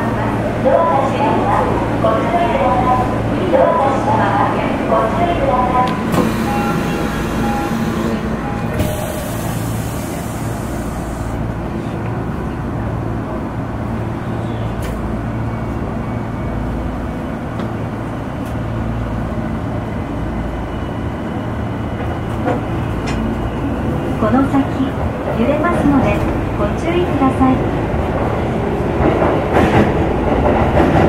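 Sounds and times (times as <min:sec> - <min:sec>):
subway train humming: 0:00.0 - 0:31.0.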